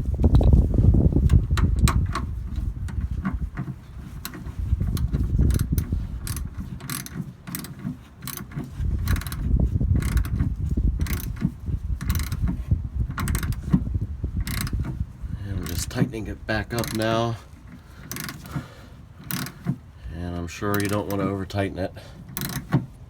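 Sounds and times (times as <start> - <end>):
low handling rumble: 0.0 - 6.9, 8.4 - 23.0
hand ratchet clicking: 1.3 - 13.8, 14.4 - 15.0, 15.6 - 19.8, 20.7 - 21.3, 22.2 - 22.8.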